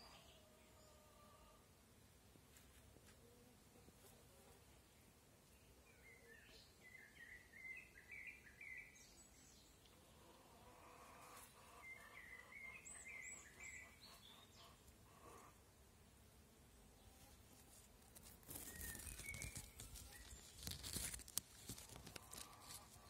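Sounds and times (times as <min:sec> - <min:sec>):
songbird chirping: 0:00.0 - 0:01.8, 0:03.2 - 0:15.6, 0:16.8 - 0:23.0.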